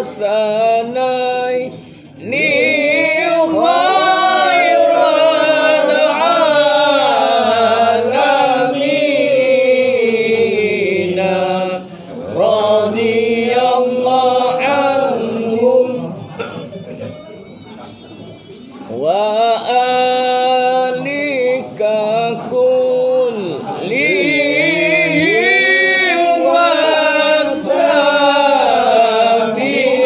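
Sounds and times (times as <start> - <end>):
men chanting: 0.0 - 16.6, 18.9 - 30.0.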